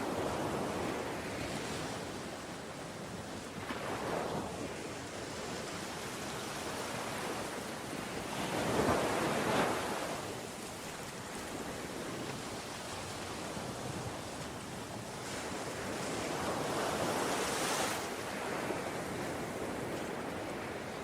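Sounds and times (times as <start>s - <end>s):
ocean waves surf: 0.0s - 21.0s.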